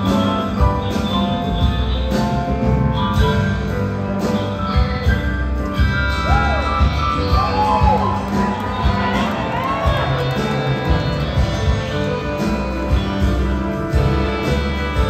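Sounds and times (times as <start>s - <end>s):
rock band and orchestra playing: 0.0s - 15.0s
steady drum beat: 0.0s - 15.0s.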